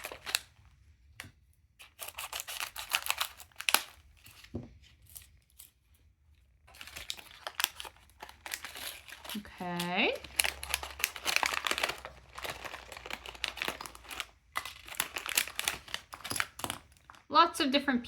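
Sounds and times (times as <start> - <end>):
plastic packet crinkling and tearing: 0.0 - 1.2, 1.8 - 17.3.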